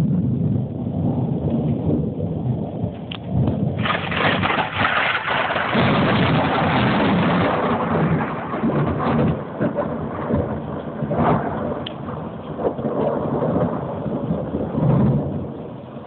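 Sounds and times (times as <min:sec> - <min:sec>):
rain: 0:00.0 - 0:16.0
thunder rumbling: 0:00.0 - 0:16.0.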